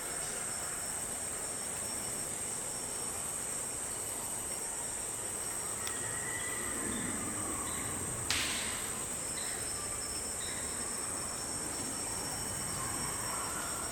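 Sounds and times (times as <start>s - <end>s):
forest insects droning: 0.0s - 13.9s.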